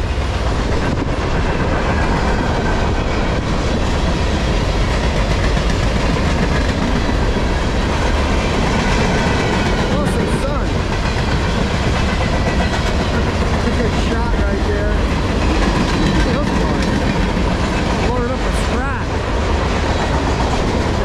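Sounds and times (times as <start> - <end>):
freight train wheels rumbling on rails: 0.0 - 21.0.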